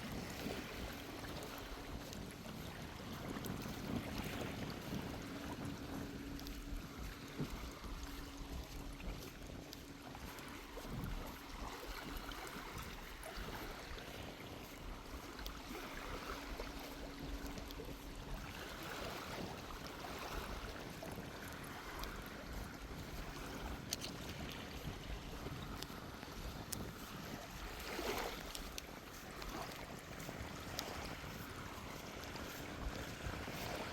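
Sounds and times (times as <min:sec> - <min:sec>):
small waves washing onto beach: 0:00.0 - 0:33.9
wind rumbling on microphone: 0:00.0 - 0:33.9.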